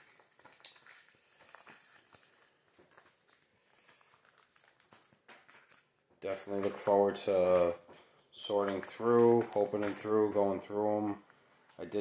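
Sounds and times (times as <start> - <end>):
cards and plastic sleeves rustling: 0.0 - 12.0.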